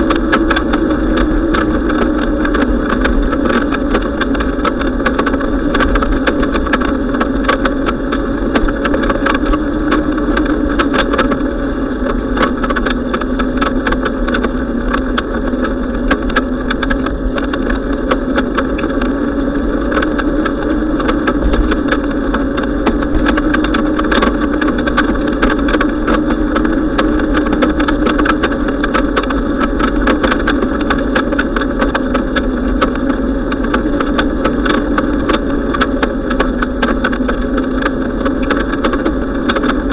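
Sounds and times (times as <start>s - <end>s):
bicycle clicks and rattles: 0.0s - 39.9s
bicycle riding hum: 0.0s - 39.9s.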